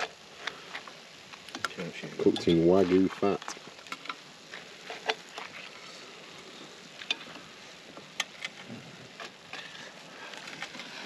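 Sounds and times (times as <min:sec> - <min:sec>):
potatoes sizzling in hot fat: 0:00.0 - 0:11.0.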